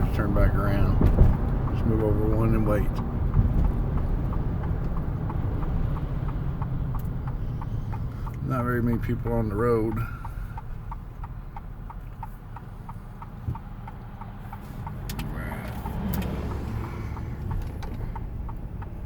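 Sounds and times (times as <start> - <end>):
idling car hum: 0.0 - 19.0
passing vehicle rush: 0.0 - 19.0
turn signal ticking: 0.0 - 19.0.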